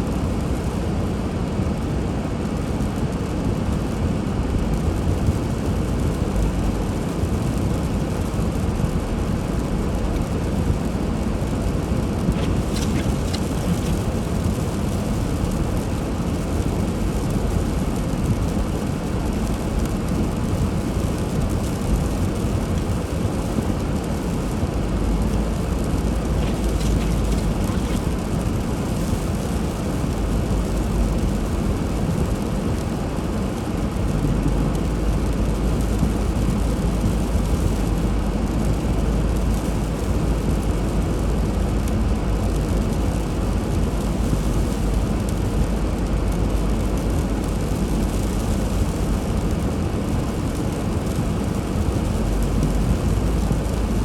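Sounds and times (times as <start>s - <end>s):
car driving low rumble: 0.0s - 54.0s.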